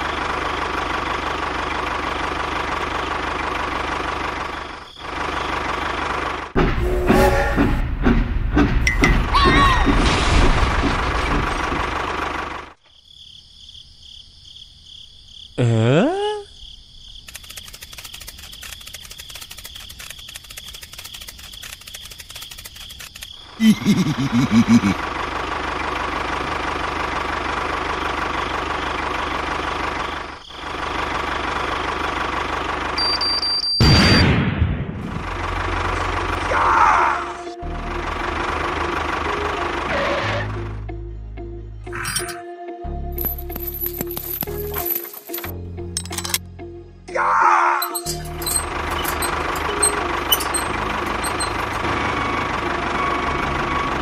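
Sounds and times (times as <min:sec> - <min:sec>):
tractor engine running: 0:00.0 - 0:12.8, 0:17.3 - 0:34.0, 0:35.0 - 0:36.7, 0:37.6 - 0:40.9, 0:43.1 - 0:46.6, 0:47.8 - 0:54.0.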